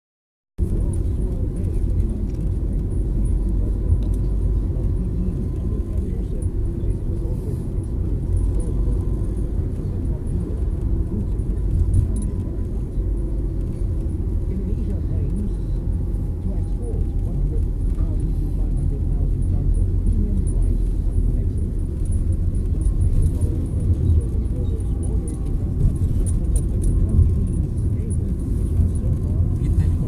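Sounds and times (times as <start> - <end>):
car engine and tyres rumbling: 0.6 - 30.0.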